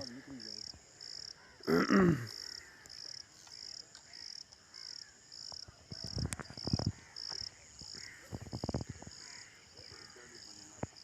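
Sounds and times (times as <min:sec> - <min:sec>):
insects chirping: 0:00.0 - 0:11.0
short loud insect call: 0:00.0 - 0:11.0.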